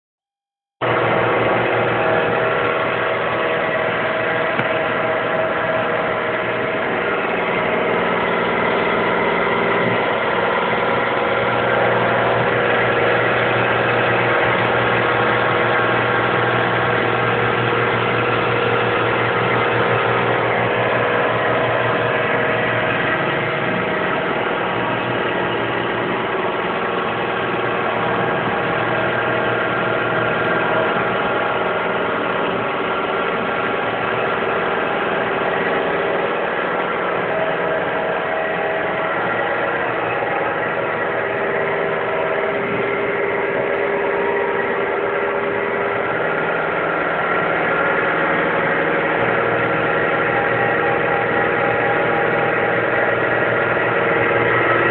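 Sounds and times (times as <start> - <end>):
machine motors humming: 0.8 - 54.9.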